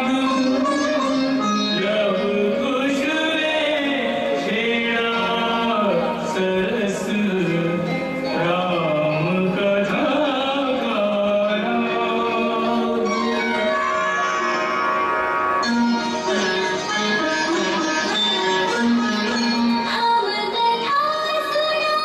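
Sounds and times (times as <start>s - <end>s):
song with singing and instruments: 0.0s - 22.0s.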